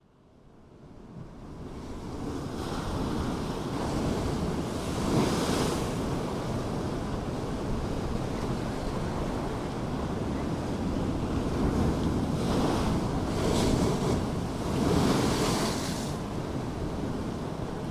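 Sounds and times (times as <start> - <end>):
wind: 0.0 - 17.9
surf: 2.5 - 17.9.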